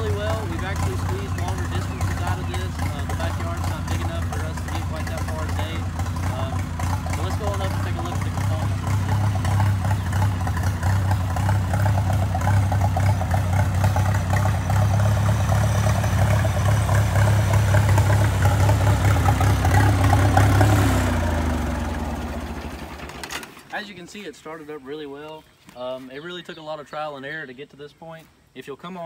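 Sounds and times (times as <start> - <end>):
tractor engine idling: 0.0 - 24.4.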